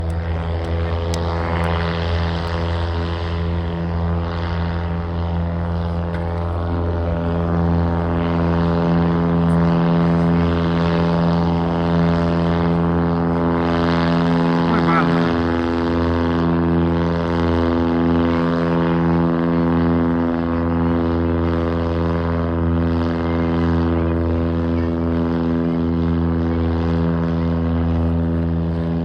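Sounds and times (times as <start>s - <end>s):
plane engine and propeller: 0.0s - 29.0s.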